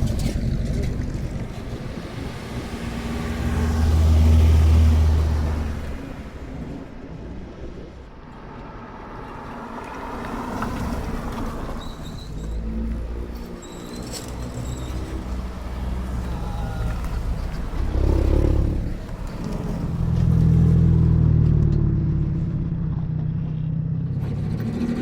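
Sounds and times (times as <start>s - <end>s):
cars driving past: 0.0s - 25.0s
low engine hum: 0.0s - 25.0s.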